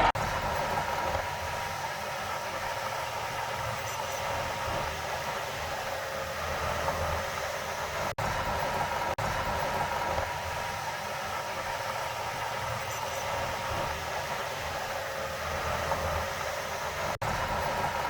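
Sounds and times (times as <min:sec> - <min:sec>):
heavy machinery diesel engine running: 0:00.0 - 0:18.0.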